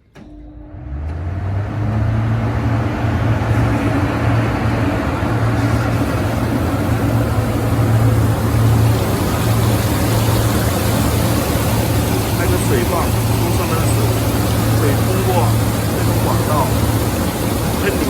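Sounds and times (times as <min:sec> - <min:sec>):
dust collector fans rushing: 0:00.0 - 0:18.0.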